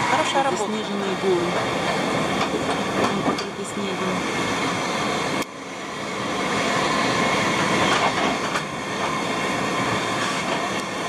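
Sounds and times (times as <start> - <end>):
train wheel and track noise: 0.0 - 11.0.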